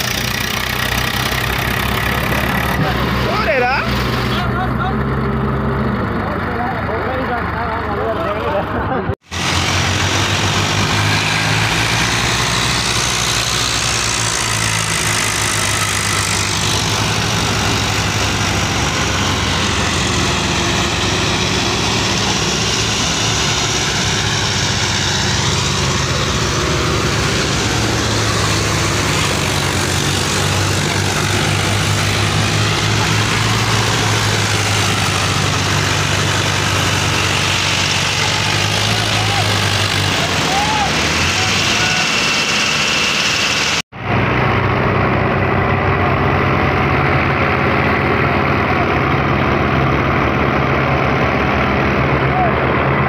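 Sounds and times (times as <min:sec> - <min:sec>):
diesel engines running hard: 0:00.0 - 0:53.0.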